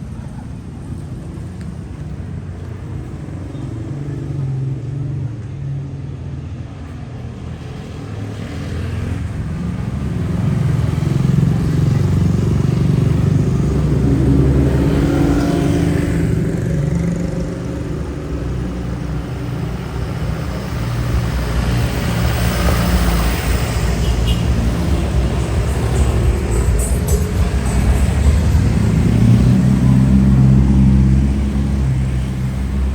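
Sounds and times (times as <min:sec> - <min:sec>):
cars and scooters passing: 0:00.0 - 0:32.9.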